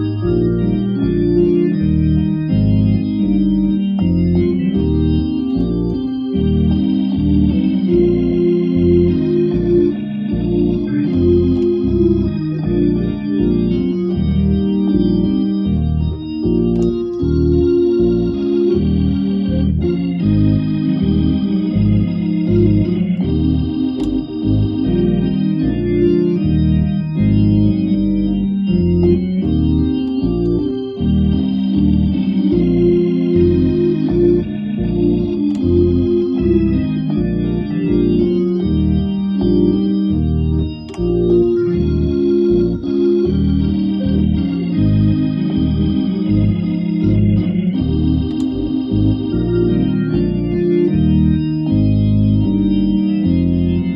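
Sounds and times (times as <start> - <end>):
organ playing sustained chords: 0.0 - 53.9.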